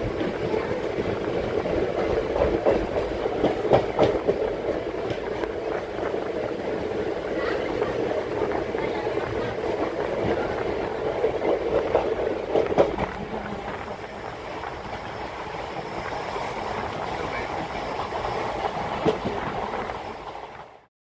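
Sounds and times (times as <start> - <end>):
train wheel and rail noise: 0.0 - 20.9.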